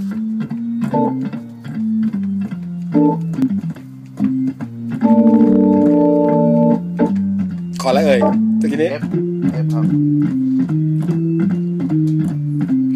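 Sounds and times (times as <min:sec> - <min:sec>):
organ playing chords: 0:00.0 - 0:12.9.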